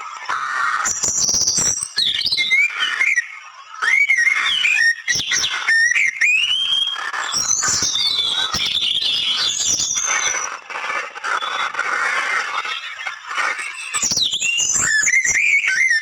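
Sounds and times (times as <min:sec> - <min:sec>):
birds whistling and chirping: 0:00.0 - 0:16.0.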